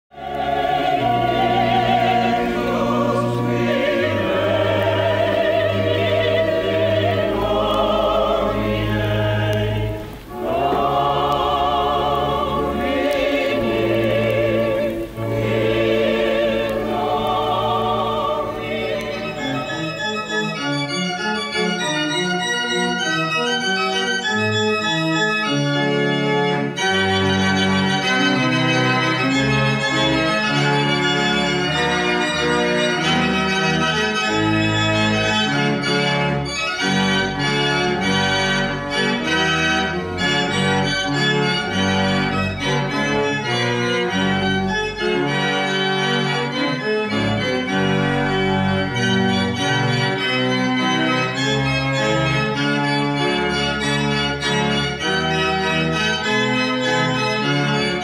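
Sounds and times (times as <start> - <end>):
pipe organ playing: 0.2 - 58.0.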